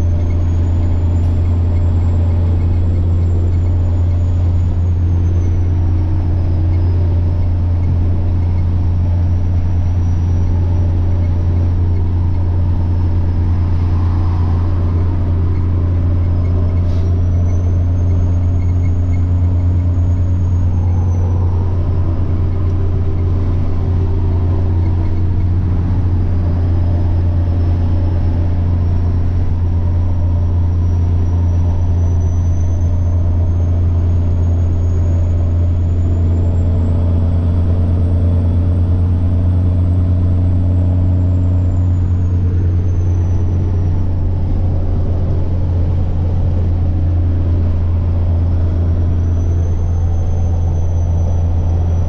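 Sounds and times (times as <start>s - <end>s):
diesel truck engine droning: 0.0s - 52.0s
turbocharger whine: 0.0s - 52.0s.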